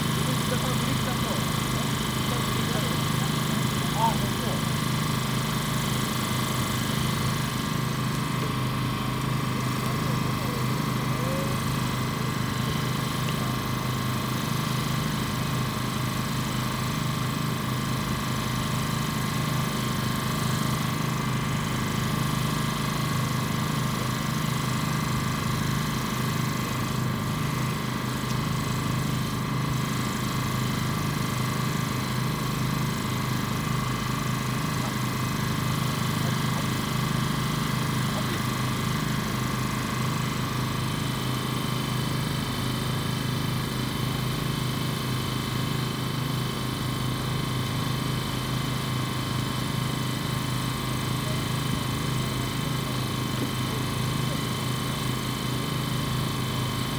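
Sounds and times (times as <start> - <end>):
high steady whine: 0.0 - 56.9.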